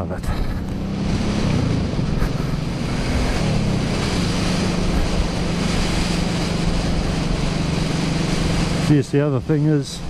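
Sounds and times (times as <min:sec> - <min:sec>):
motorcycle engine running: 0:00.0 - 0:10.0
rush of noise: 0:00.0 - 0:10.0.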